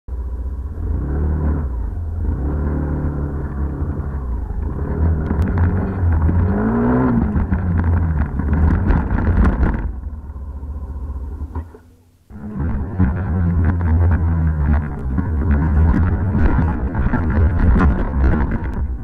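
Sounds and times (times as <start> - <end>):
motorcycle engine revving: 0.1 - 19.0.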